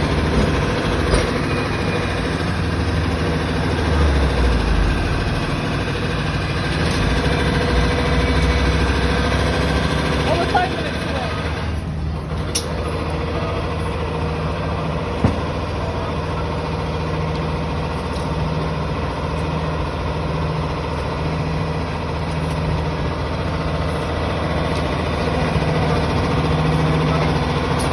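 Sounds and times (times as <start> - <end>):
heavy vehicles idling: 0.0 - 27.9
street traffic hum: 0.0 - 27.9.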